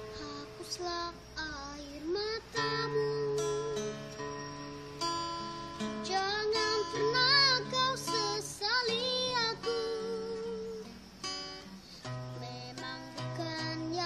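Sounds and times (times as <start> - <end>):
girl singing: 0.0 - 4.3, 5.8 - 11.0, 11.9 - 14.0
strummed acoustic guitar: 0.0 - 14.0.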